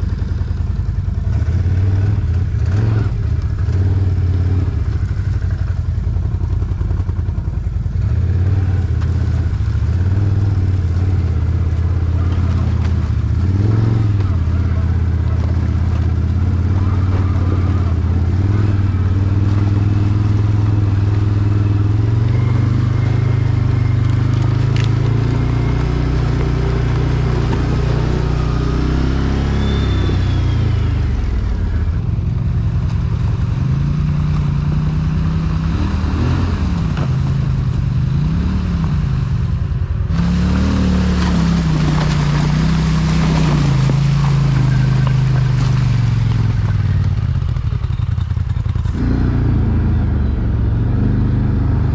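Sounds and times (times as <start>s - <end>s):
quad engine revving: 1.2s - 5.5s, 6.4s - 32.7s, 33.4s - 39.4s, 40.1s - 51.9s.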